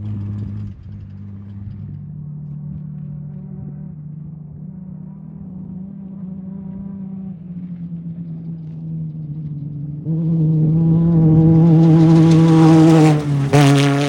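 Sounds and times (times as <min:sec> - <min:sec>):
race vehicle engine running: 0:00.0 - 0:14.0.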